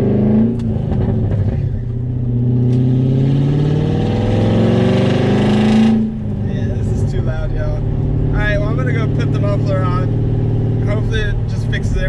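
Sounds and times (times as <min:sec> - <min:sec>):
loud car engine accelerating: 0:00.0 - 0:12.0.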